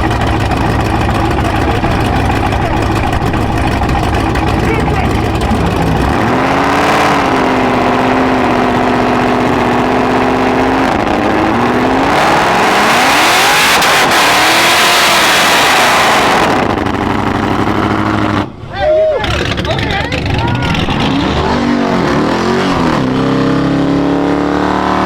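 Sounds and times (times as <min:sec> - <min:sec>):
car engine revving hard: 0:00.0 - 0:18.6, 0:19.2 - 0:25.0
spinning tyres rushing: 0:00.0 - 0:25.0.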